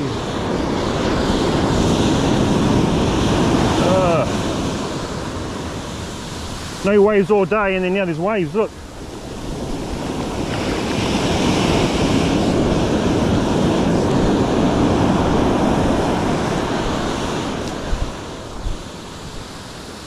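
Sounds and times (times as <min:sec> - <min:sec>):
ocean surf washing up beach: 0:00.0 - 0:20.0.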